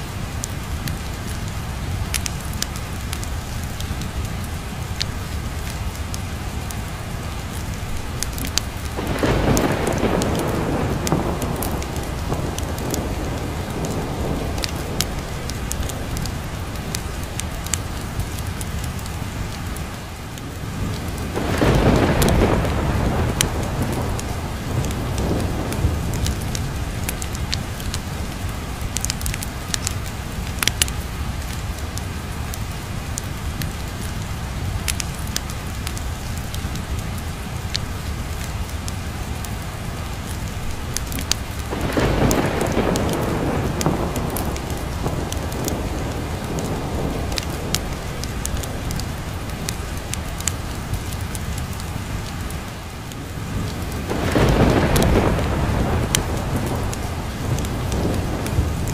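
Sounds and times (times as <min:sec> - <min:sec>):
heavy rain: 0:00.0 - 0:58.9
sharp crackles: 0:00.1 - 0:58.9
thunder rumbling: 0:00.1 - 0:58.9.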